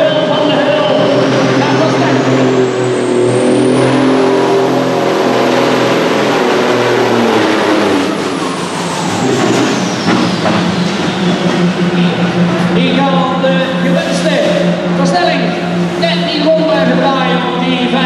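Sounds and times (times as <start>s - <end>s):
tractor engine running flat out: 0.0s - 18.0s.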